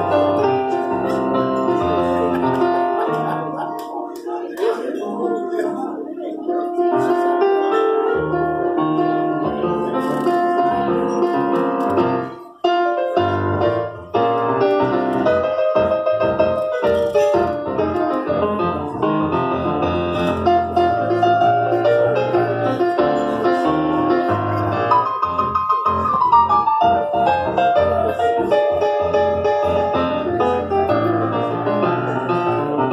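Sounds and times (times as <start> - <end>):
keyboard playing piano melody: 0.0 - 32.9.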